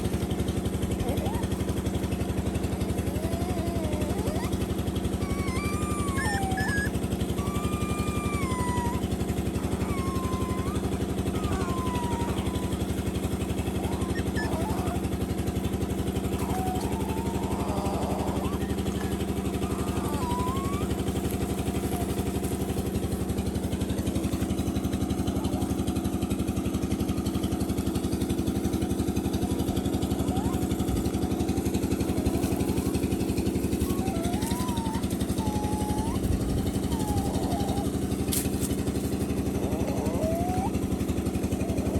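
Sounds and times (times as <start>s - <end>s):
puppies whining: 0.0s - 41.9s
small engine running: 0.0s - 41.9s.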